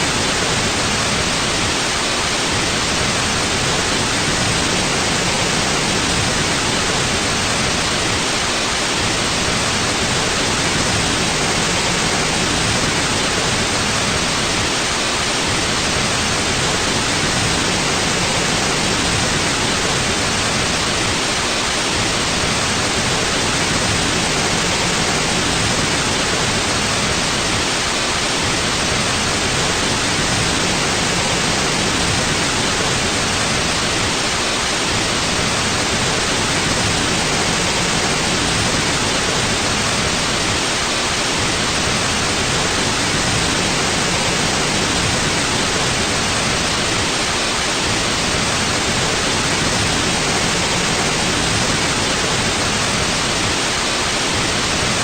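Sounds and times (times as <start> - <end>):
steady white noise hiss: 0.0 - 55.0.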